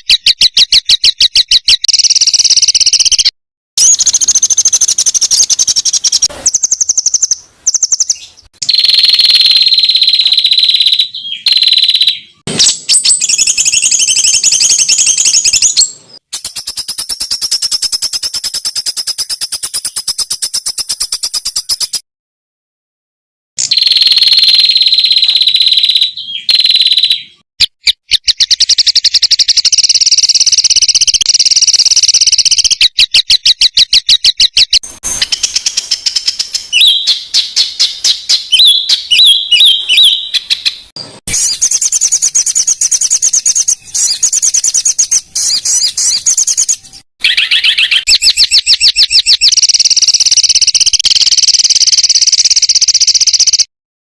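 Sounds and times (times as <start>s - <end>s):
songbirds trilling rapidly: 0.1s - 22.0s, 28.1s - 51.1s.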